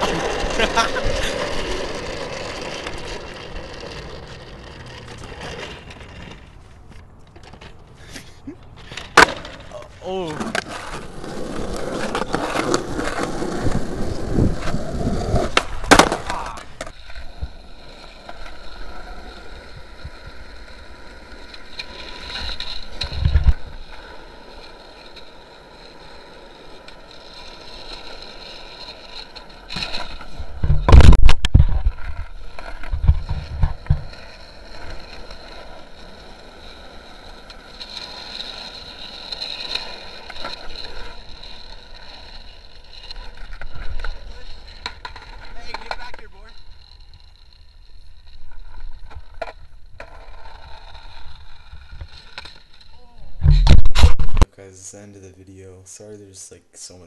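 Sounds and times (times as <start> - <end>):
skateboard clacking on pavement: 0.0 - 8.0, 8.7 - 52.9
skateboard wheels rolling on asphalt: 0.0 - 54.5.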